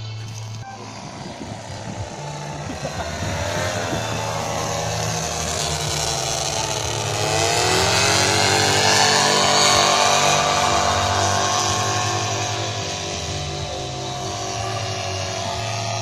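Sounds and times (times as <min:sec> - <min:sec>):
paramotor engine and propeller: 0:00.0 - 0:16.0.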